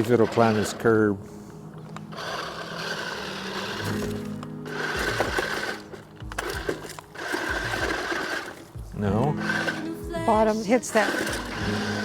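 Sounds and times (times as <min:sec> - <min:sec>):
toy truck electric motors whining: 0:00.0 - 0:01.2, 0:02.0 - 0:12.0.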